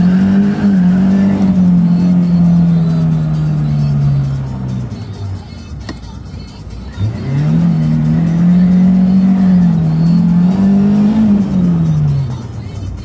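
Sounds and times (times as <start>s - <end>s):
car engine revving hard: 0.0s - 5.0s, 6.9s - 12.5s.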